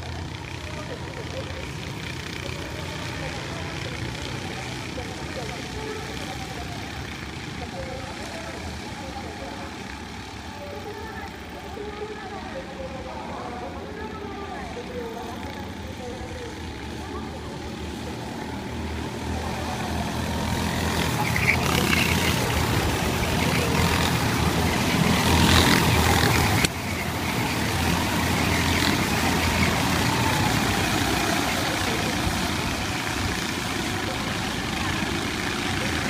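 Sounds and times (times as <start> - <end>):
go-kart engines buzzing: 0.0 - 36.0.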